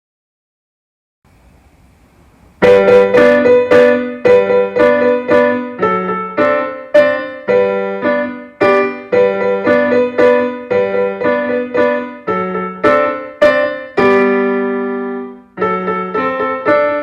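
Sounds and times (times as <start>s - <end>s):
piano piece: 2.2s - 17.0s.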